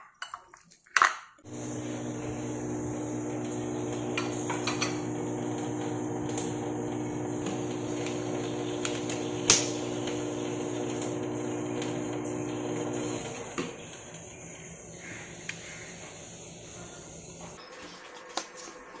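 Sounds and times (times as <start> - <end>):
appliance hum: 1.4 - 17.6.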